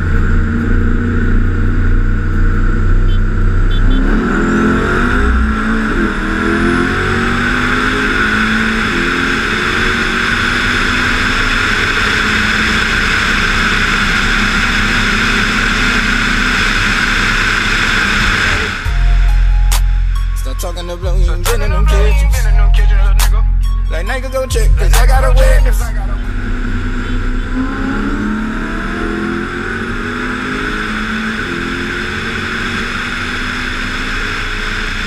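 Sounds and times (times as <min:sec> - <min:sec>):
engine accelerating: 0:00.0 - 0:35.0.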